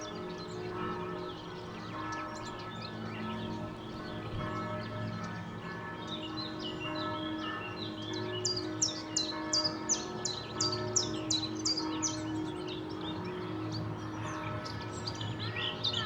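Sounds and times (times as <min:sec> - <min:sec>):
distant church bells ringing: 0:00.0 - 0:16.0.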